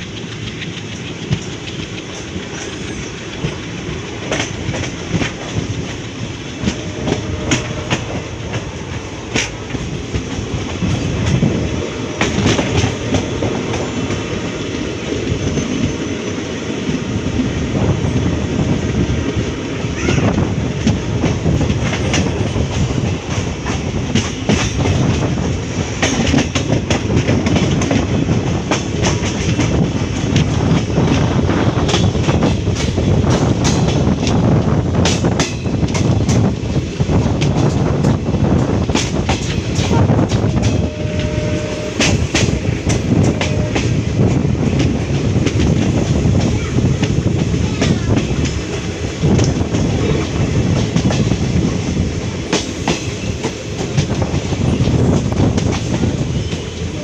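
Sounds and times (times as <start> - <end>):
wheels clacking over rail joints: 0.0 - 17.5, 18.1 - 57.0
train rumble: 0.0 - 57.0.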